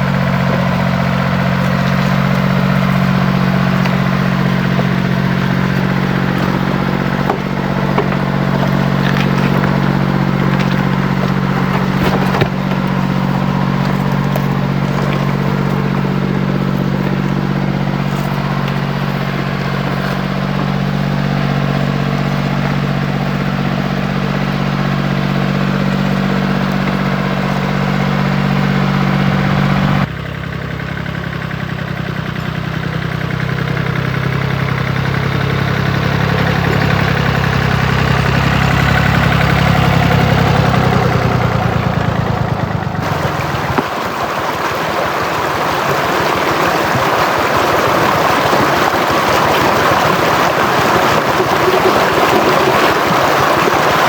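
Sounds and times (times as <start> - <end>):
engine running: 0.0 - 54.0
low mechanical drone: 0.0 - 54.0.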